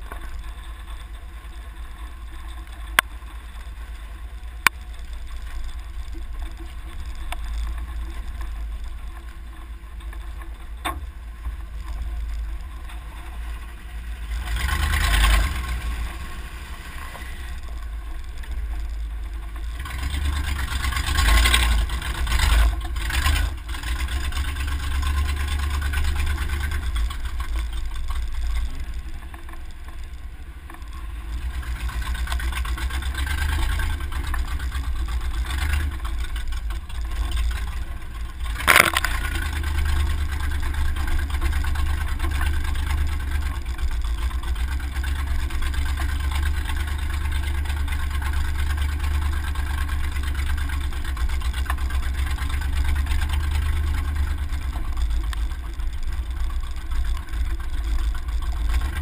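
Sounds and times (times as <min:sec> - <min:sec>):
truck engine and tyre rumble: 0:00.0 - 0:59.0.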